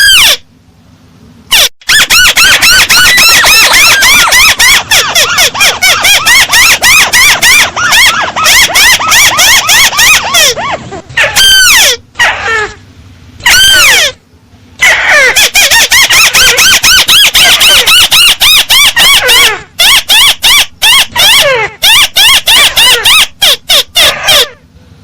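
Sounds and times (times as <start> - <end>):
crake call recording: 1.5 - 24.6.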